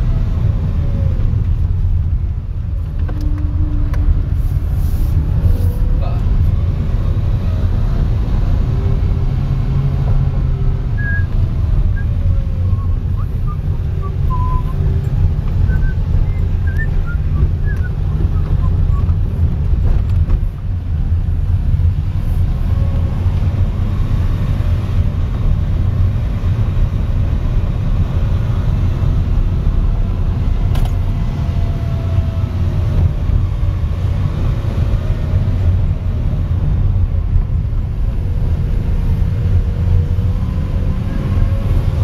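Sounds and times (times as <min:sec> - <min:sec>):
car rumbling on gravel road: 0:00.0 - 0:42.0.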